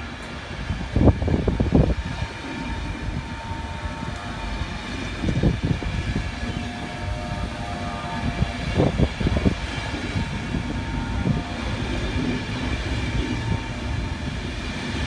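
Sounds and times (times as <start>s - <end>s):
faint steady whine: 0.0s - 15.0s
train wheels rumbling on rail: 0.0s - 15.0s.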